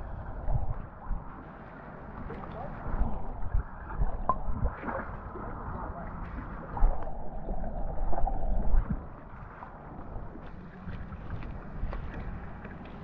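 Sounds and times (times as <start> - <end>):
muffled underwater water noise: 0.0 - 13.0.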